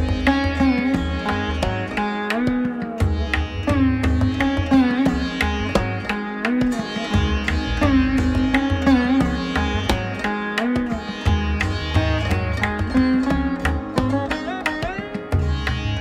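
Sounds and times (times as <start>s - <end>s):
plucked-string music with beat: 0.0s - 16.0s.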